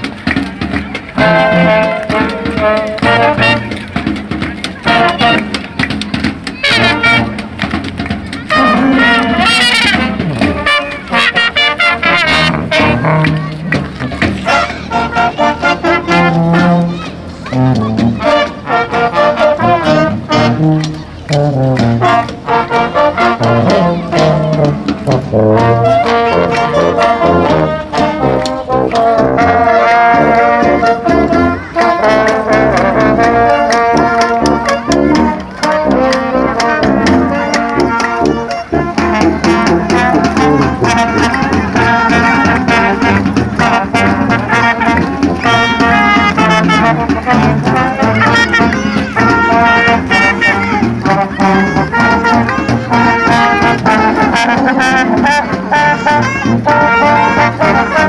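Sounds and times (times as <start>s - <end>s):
brass street band playing: 0.0s - 58.0s.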